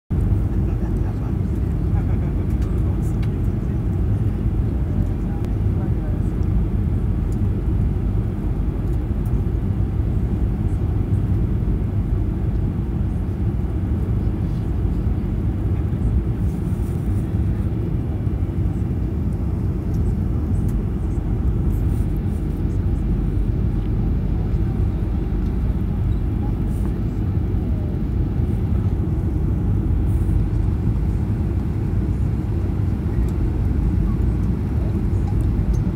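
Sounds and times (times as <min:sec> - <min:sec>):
airplane cabin rumble: 0:00.1 - 0:35.9.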